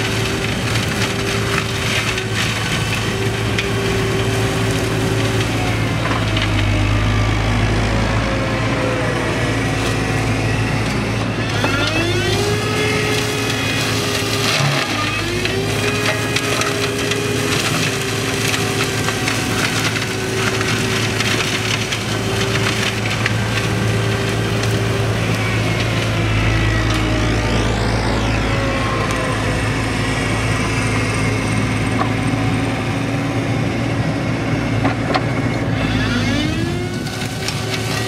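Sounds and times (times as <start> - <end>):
crackle of cut material: 0.0 - 7.8, 8.6 - 32.9, 34.8 - 38.0
excavator engine humming: 0.0 - 38.0
flail mulcher shredding brush: 0.0 - 38.0.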